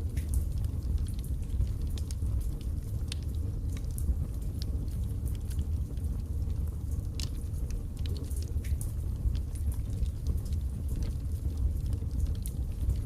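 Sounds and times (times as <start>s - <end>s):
fire crackling and popping: 0.0s - 13.0s
fire low rumble: 0.0s - 13.0s.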